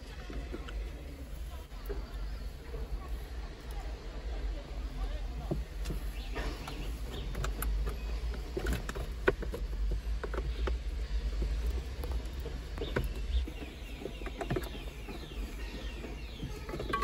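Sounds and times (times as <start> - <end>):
cables rustling and scraping: 0.0 - 17.0.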